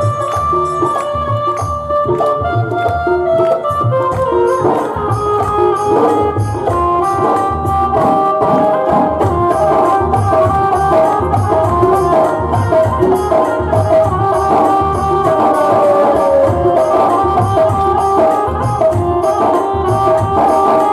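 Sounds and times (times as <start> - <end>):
devotional melody with held notes: 0.0 - 20.9
hand drum rhythm: 0.0 - 20.9.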